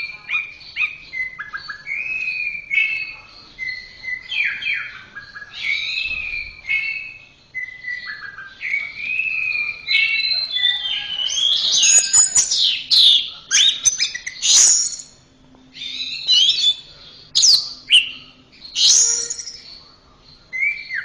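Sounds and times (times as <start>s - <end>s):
thrush singing whistled phrases: 0.0s - 15.2s, 15.8s - 19.7s.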